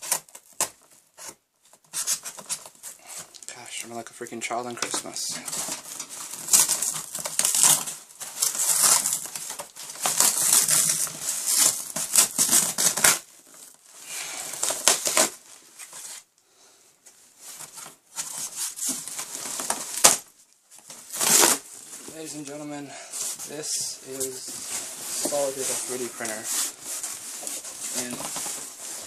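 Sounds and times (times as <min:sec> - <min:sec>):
packaging rustling and crinkling: 0:00.0 - 0:03.6, 0:04.6 - 0:16.3, 0:17.3 - 0:29.0.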